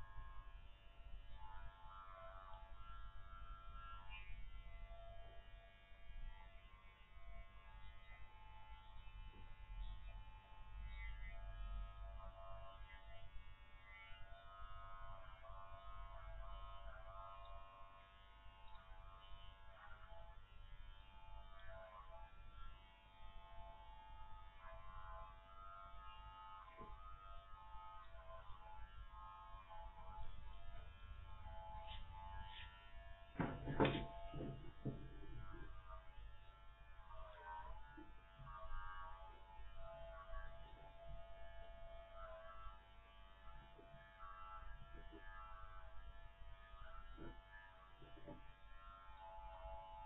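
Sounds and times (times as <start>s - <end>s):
electric clippers buzzing: 0.0s - 50.0s.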